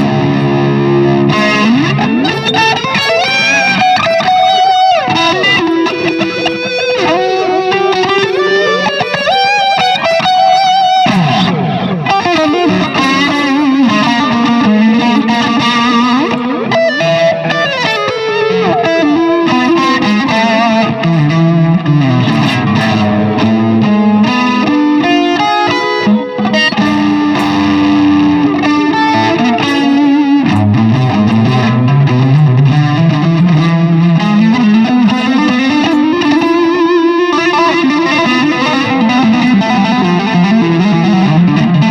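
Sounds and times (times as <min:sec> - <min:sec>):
electric guitar with delay echoes: 0:00.0 - 0:41.9.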